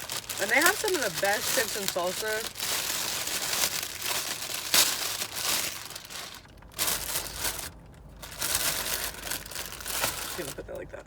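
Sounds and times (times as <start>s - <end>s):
food packaging crinkling: 0.0s - 10.6s.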